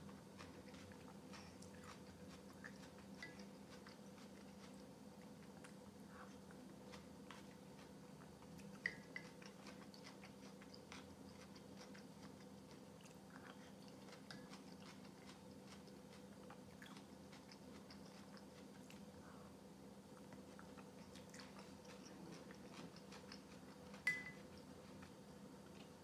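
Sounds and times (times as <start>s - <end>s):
person chewing soup: 0.0s - 19.4s, 20.0s - 26.0s.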